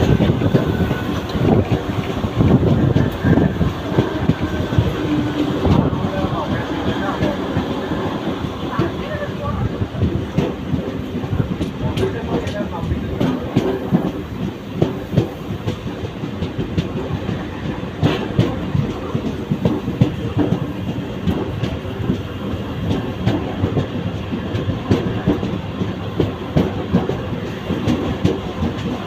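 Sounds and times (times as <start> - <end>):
train wheels clattering over rail joints: 0.0 - 29.0.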